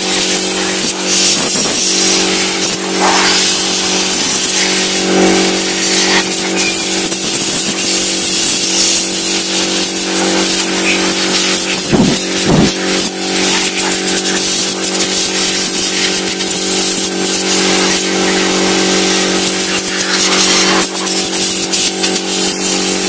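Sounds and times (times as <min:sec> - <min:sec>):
air compressor running: 0:00.0 - 0:23.0
hiss of blowing air: 0:00.0 - 0:23.0.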